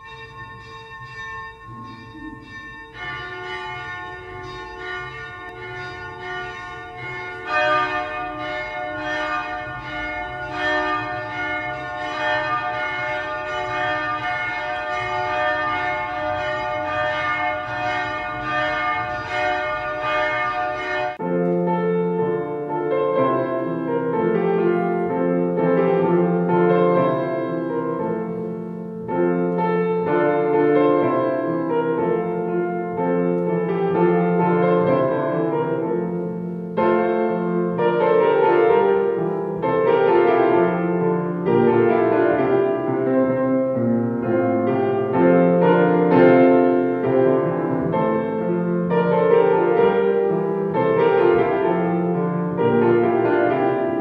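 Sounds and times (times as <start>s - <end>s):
church bells ringing: 0.0s - 54.0s
music: 0.0s - 54.0s.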